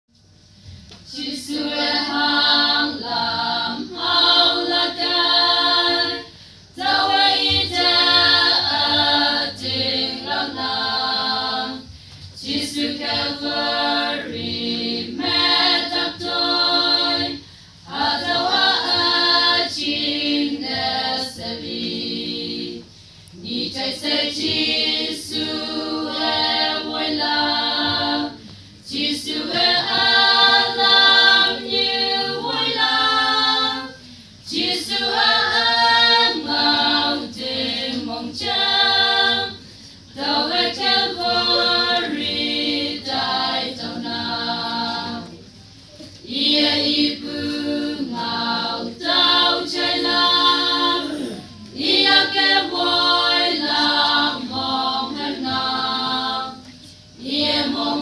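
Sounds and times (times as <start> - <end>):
women's choir singing a hymn: 0.2 - 58.0.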